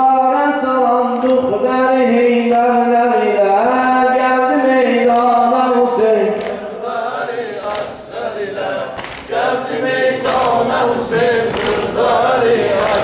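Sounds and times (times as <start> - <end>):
men chanting a mourning elegy: 0.0 - 13.0.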